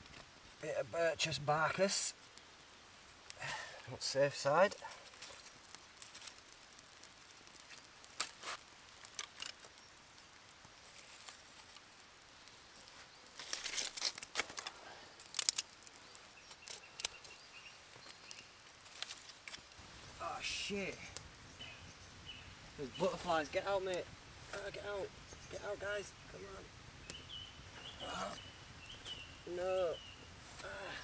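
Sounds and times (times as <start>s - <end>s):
dry sticks clicking and rustling: 3.1s - 31.0s.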